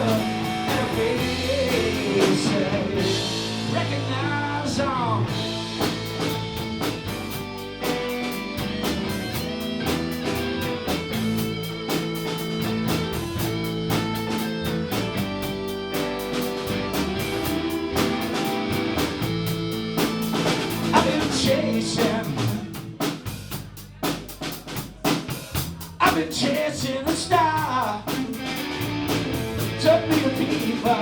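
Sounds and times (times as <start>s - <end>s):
electric guitar playing: 0.0s - 23.0s, 28.2s - 31.0s
drum kit beat: 0.0s - 31.0s.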